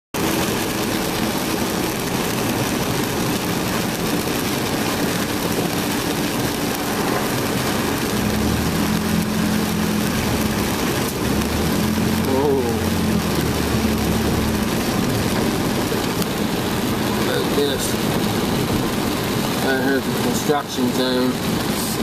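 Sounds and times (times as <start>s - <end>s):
deeper engine hum: 0.2s - 20.2s
car engine humming: 0.2s - 22.0s
heavy rain on car: 0.2s - 22.0s
tyres hissing on wet road: 0.2s - 22.0s.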